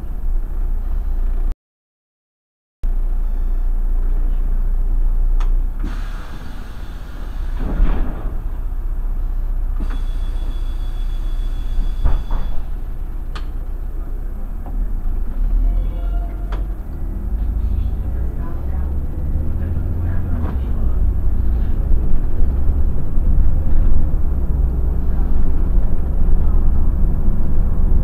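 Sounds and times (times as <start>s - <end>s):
bus engine rumble: 0.0s - 1.5s, 2.8s - 28.0s.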